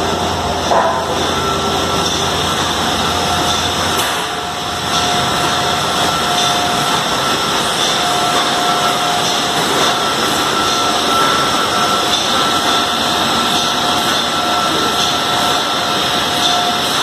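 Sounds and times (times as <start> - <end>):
high machine whine: 0.0 - 17.0
production line machinery: 0.0 - 17.0.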